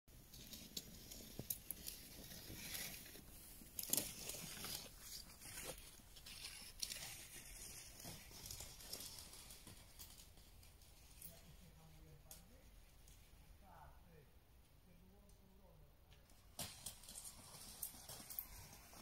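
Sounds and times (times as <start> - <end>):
bicycle tyres crunching snow: 0.1 - 12.7, 16.3 - 19.0
sled runners crunching snow: 0.1 - 12.9, 16.4 - 19.0.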